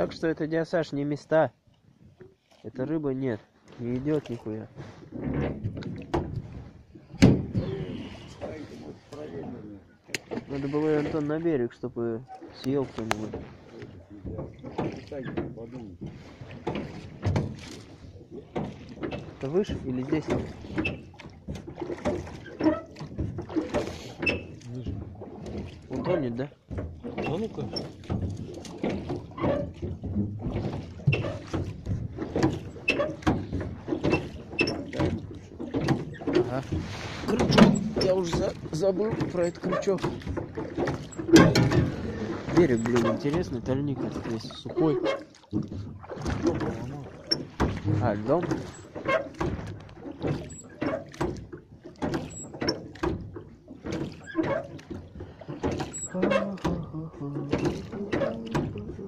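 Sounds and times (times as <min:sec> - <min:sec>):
water sounds: 0:00.0 - 0:59.0
small boat knocking: 0:03.9 - 0:11.4, 0:12.2 - 0:59.0.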